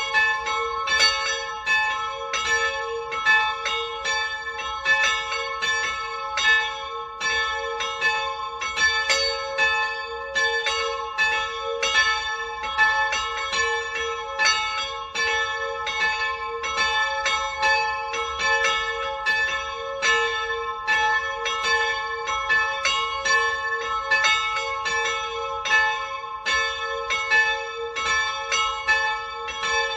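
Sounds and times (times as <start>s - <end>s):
church bells pealing: 0.0s - 29.9s.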